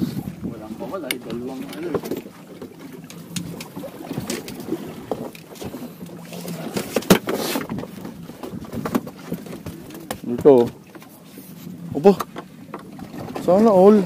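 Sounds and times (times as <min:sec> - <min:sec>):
knocks and clatter on boat: 0:00.0 - 0:14.0.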